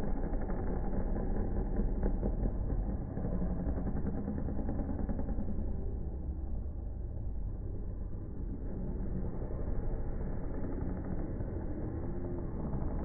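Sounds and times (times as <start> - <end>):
dirt bike engines droning: 0.0 - 13.0.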